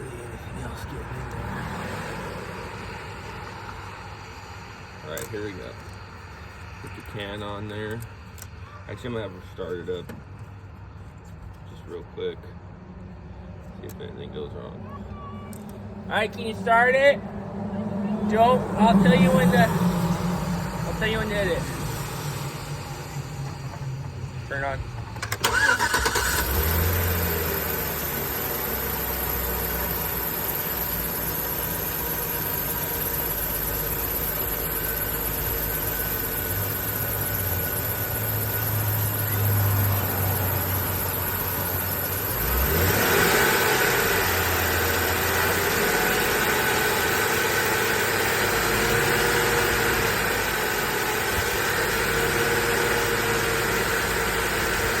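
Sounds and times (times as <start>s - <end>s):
truck engine starting and idling: 0.0s - 10.0s, 15.3s - 55.0s.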